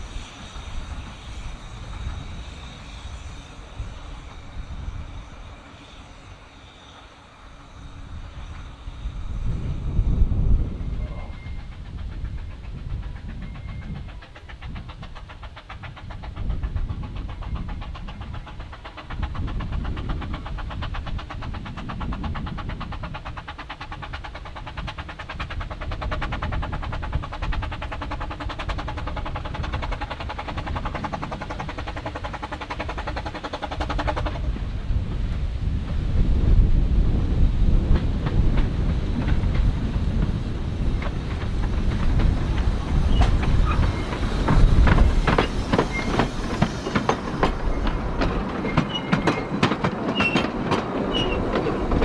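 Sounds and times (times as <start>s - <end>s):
steam locomotive chuffing: 0.0s - 52.0s
wind rumbling on microphone: 7.7s - 52.0s.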